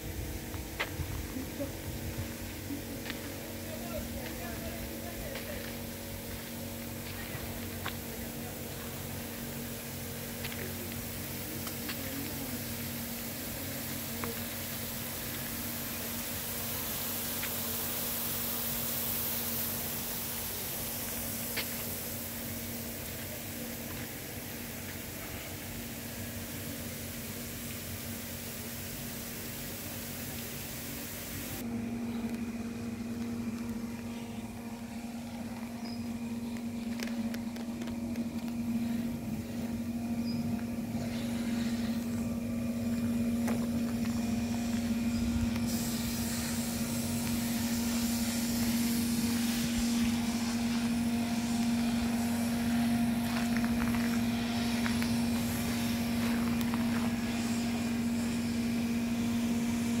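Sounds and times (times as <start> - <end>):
hiss: 0.0 - 31.7, 33.1 - 60.0
steady mechanical hum: 0.0 - 60.0.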